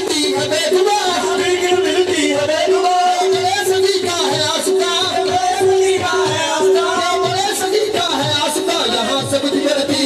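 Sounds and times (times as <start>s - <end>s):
devotional singing: 0.0s - 10.0s
steady drum beat: 0.0s - 10.0s.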